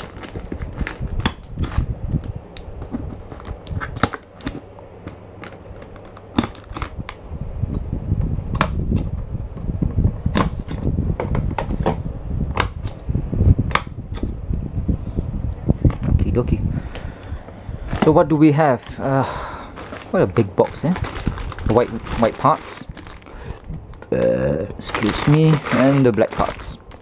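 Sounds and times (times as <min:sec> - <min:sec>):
low rumble: 0:00.0 - 0:04.4, 0:05.2 - 0:27.0.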